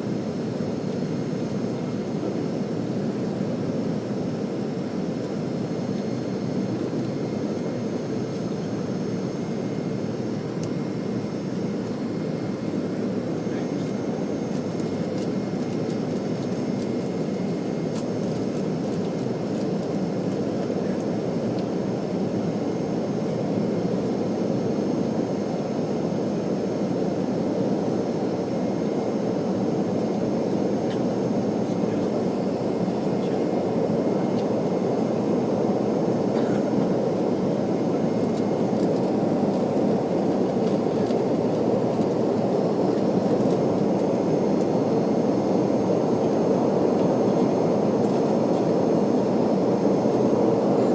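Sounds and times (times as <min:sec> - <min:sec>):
jet airliner engine rush: 0:00.0 - 0:50.9.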